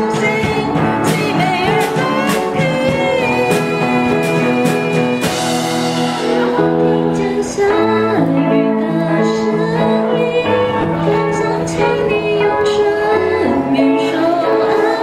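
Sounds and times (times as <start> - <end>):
instrumental accompaniment: 0.0 - 15.0
song with sung melody: 0.0 - 15.0.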